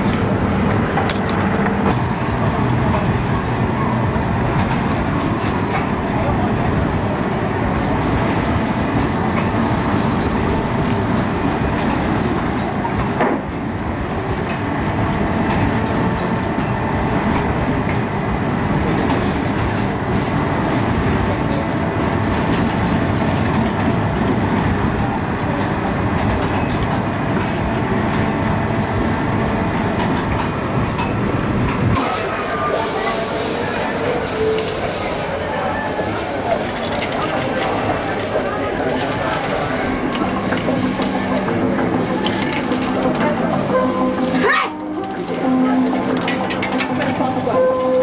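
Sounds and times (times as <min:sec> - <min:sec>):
ride mechanical rumble: 0:00.0 - 0:48.0.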